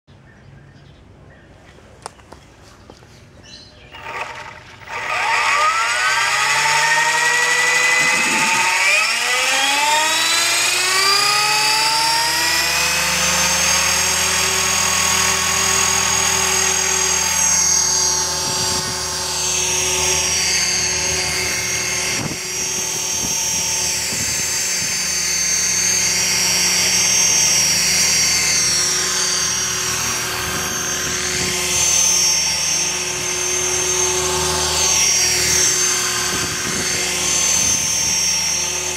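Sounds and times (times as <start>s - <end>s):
rc helicopter motor whine: 3.5s - 38.9s
rotor whoosh: 3.9s - 38.9s.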